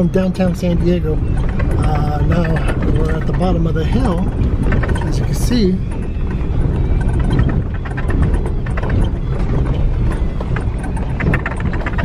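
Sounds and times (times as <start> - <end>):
gravel and body rattles: 0.0 - 12.0
truck tyres rumbling on dirt: 0.0 - 12.0.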